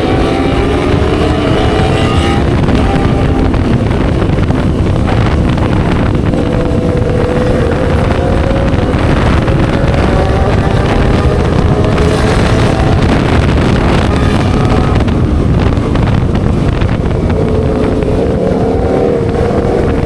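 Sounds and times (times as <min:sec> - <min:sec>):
motorcycle engine: 0:00.0 - 0:20.0
wind noise on microphone: 0:00.0 - 0:20.0.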